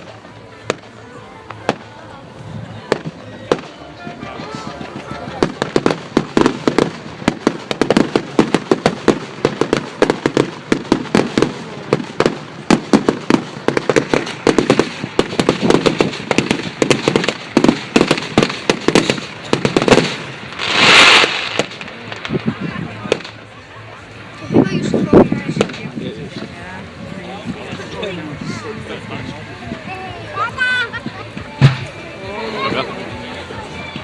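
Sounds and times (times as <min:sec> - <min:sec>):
firework rushing burst: 0:00.0 - 0:30.8
fireworks bangs and crackles: 0:00.0 - 0:34.0.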